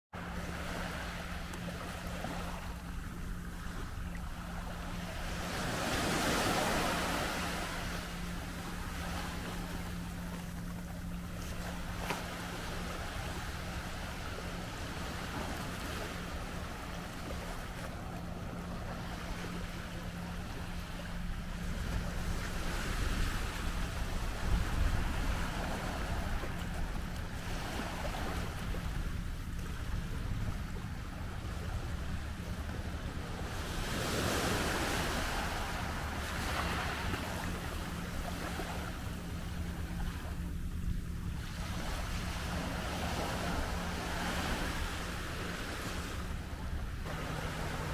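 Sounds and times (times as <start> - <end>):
waves washing on shore: 0.2 - 47.9.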